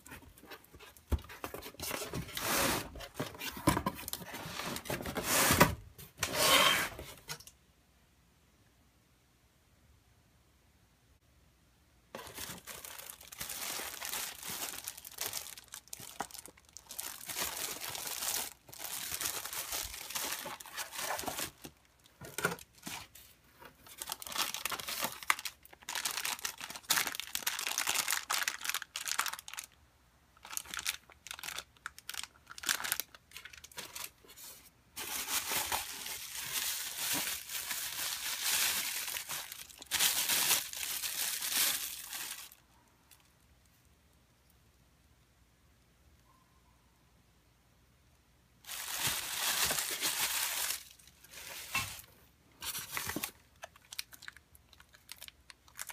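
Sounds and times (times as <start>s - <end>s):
plastic bags and bubble wrap crinkling: 0.0s - 7.4s, 12.1s - 29.8s, 30.4s - 43.2s, 48.6s - 55.9s.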